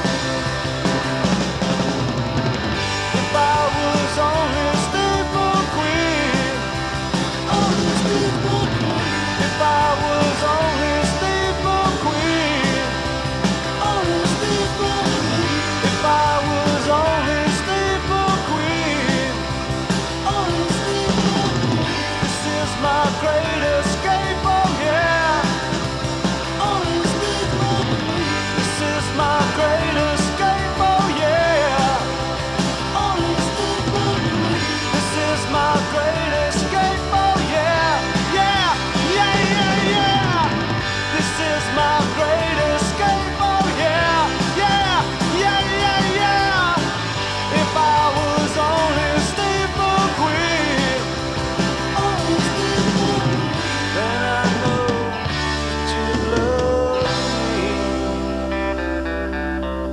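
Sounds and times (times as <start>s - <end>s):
steady drum beat: 0.0s - 58.6s
rock band playing: 0.0s - 59.9s.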